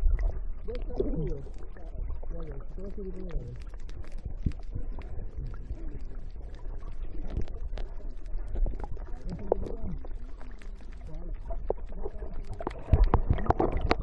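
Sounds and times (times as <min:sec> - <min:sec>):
muffled water sloshing and bubbling: 0:00.0 - 0:14.0.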